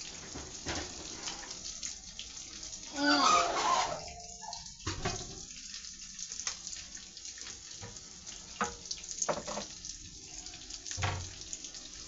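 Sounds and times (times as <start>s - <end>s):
food sizzling in a pan: 0.0s - 2.1s, 2.7s - 12.0s.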